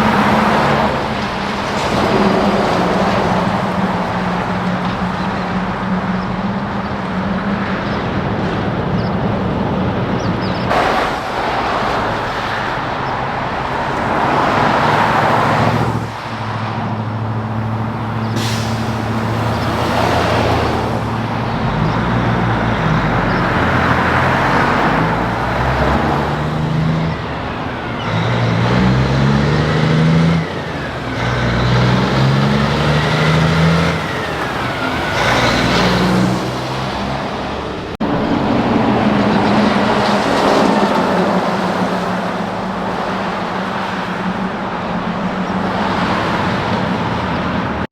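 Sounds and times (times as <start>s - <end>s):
diesel trucks passing: 0.0s - 47.9s
truck engine shifting gears: 0.0s - 47.9s.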